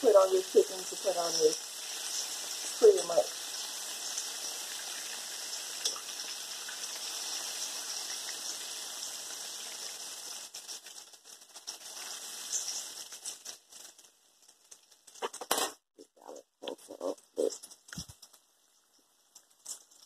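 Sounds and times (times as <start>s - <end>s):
bacon sizzling in oil: 0.0s - 15.3s, 16.6s - 20.0s.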